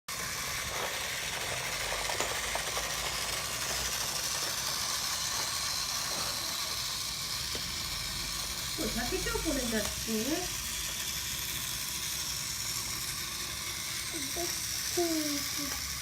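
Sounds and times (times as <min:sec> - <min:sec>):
toy train running: 0:00.1 - 0:16.0.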